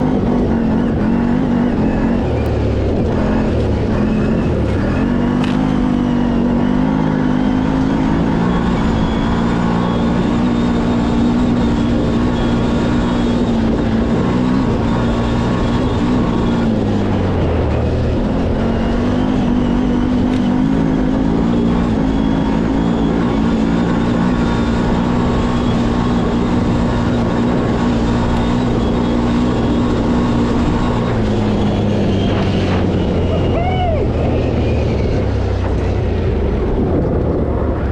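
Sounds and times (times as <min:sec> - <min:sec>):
engine running at high revs: 0:00.0 - 0:37.9.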